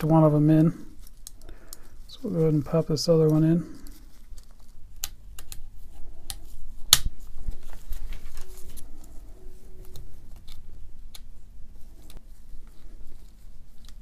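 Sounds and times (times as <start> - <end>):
light handling noises: 0.0 - 14.0.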